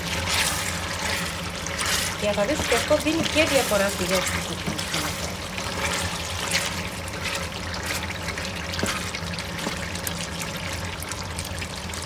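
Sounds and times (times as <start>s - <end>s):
paste crackling in oil: 0.0s - 12.0s.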